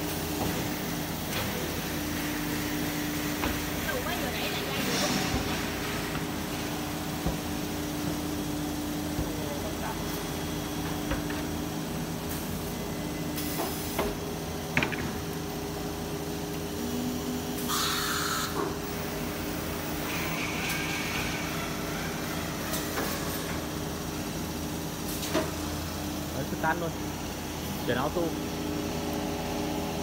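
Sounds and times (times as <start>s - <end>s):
machine hum with fixed tones: 0.0s - 30.0s.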